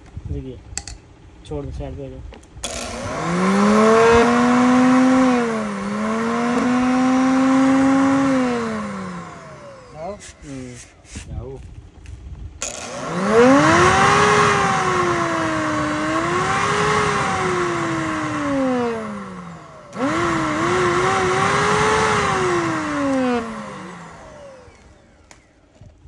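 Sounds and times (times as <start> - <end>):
blender motor whining: 2.6 - 11.0, 12.6 - 25.6.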